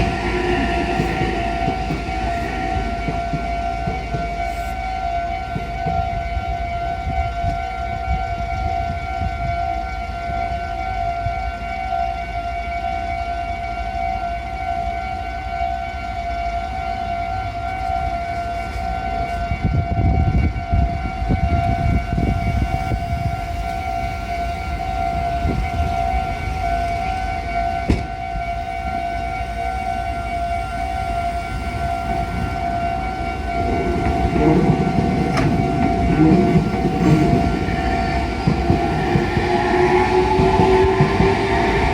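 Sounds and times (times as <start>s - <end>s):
train rumble: 0.0s - 10.5s, 17.8s - 41.9s.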